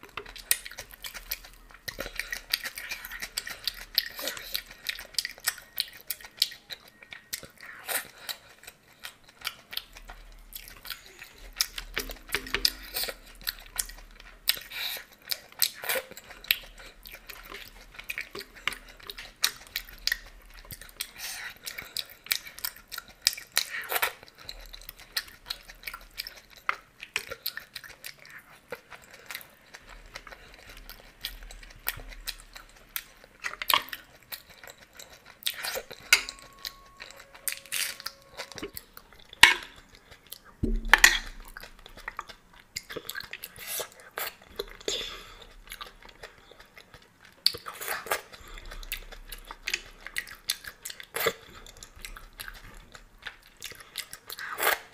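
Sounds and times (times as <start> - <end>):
wet chewing and smacking: 0.0 - 54.9.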